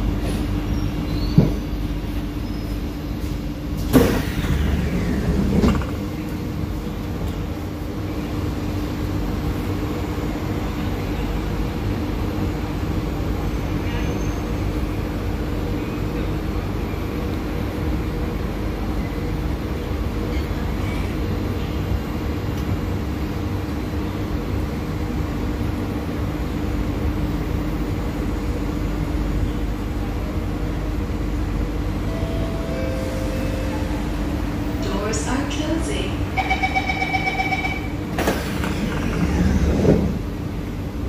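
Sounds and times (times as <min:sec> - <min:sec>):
train hum and rumble: 0:00.0 - 0:41.0.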